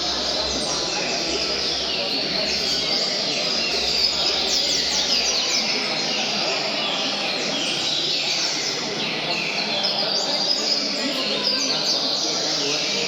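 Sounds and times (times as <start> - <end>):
chorus of songbirds singing: 0.0 - 13.0.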